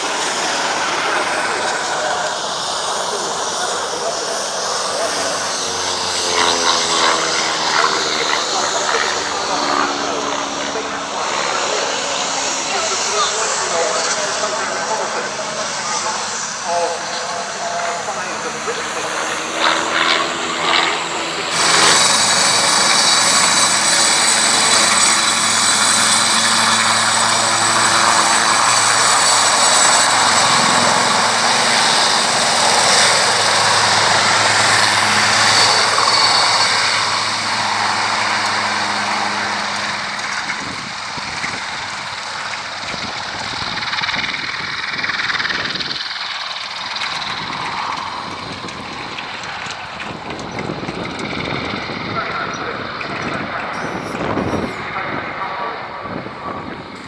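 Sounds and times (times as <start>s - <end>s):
aircraft flying past: 0.0s - 57.0s.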